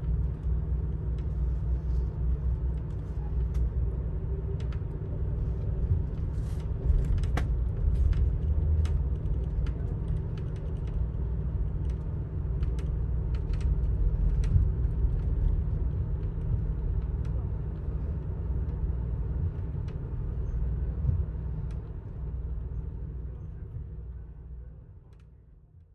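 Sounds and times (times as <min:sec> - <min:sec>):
passenger train on rails: 0:00.0 - 0:24.9.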